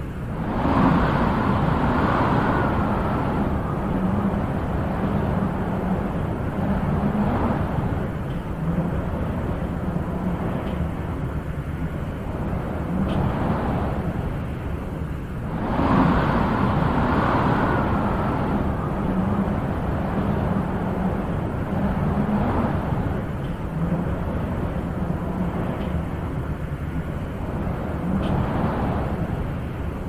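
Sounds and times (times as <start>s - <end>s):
wind blowing: 0.0s - 30.0s.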